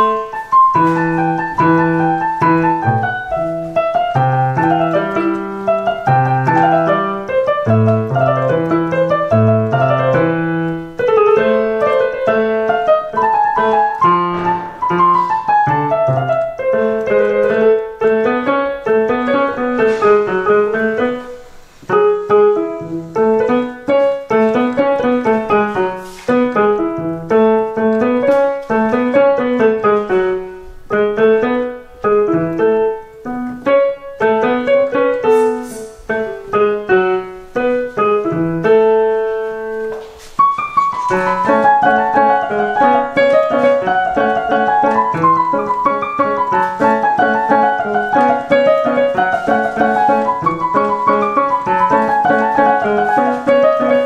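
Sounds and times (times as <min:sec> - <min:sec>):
digital piano melody: 0:00.0 - 0:54.0.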